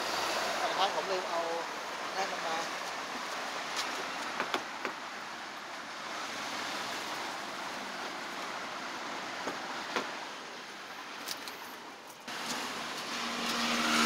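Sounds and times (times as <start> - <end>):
street background hiss: 0.0 - 14.0.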